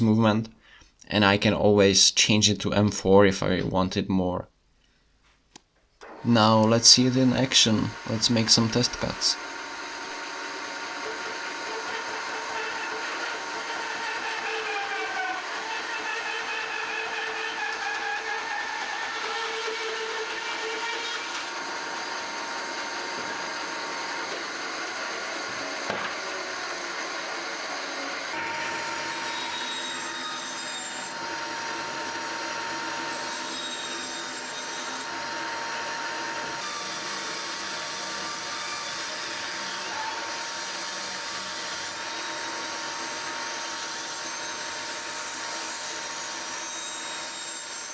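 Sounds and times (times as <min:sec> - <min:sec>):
bandsaw cutting wood: 0:06.0 - 0:47.9.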